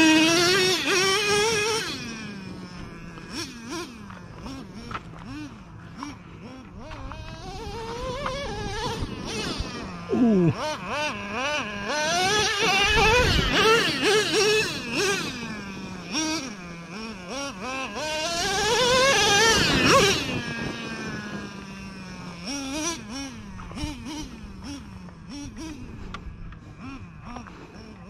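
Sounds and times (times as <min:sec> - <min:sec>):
model car nitro engine revving: 0:00.0 - 0:28.0.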